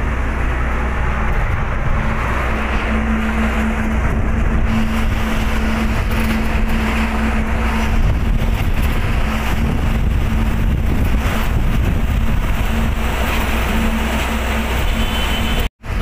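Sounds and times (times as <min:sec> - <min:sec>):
road noise: 0:00.0 - 0:16.0
truck engine hum: 0:00.0 - 0:16.0
wind noise: 0:00.0 - 0:16.0.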